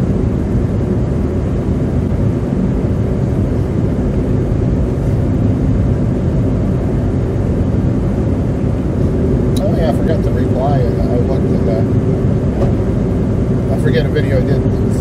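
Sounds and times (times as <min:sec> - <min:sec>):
car engine: 0:00.0 - 0:15.0
defroster fan blowing: 0:00.0 - 0:15.0.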